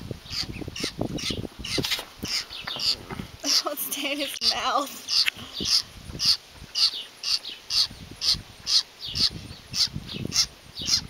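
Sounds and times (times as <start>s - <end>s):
baby bird begging calls: 0.2s - 11.0s.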